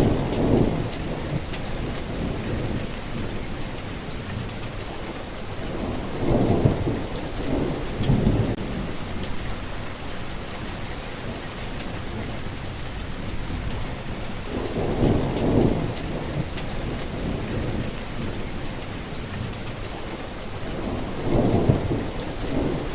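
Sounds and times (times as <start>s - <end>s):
thunder rumbling: 0.0s - 20.0s, 20.6s - 22.9s
heavy rain falling: 0.0s - 22.9s.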